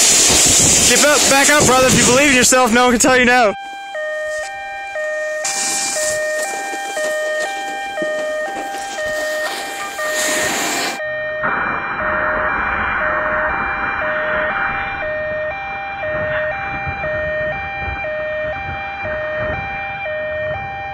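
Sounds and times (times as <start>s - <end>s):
two-tone siren sound: 1.4s - 20.9s.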